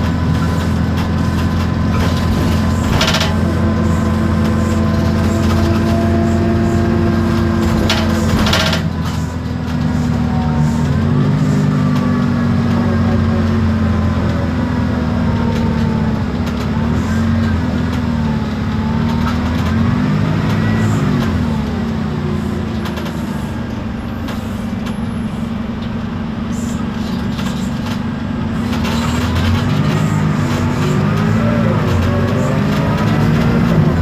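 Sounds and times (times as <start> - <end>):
bus body rattles: 0.0 - 34.0
bus diesel engine running: 0.0 - 34.0
gearbox whine: 0.0 - 34.0.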